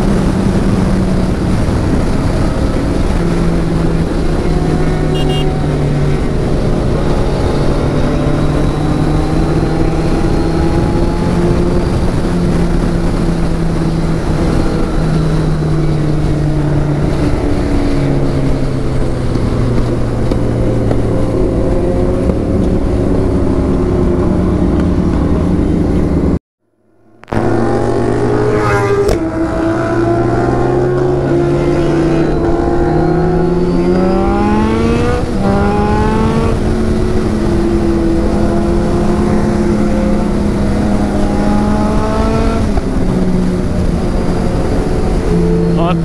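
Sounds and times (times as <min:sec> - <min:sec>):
wind rushing over microphone: 0:00.0 - 0:26.4, 0:27.3 - 0:46.0
motorcycle engine accelerating: 0:00.0 - 0:46.0.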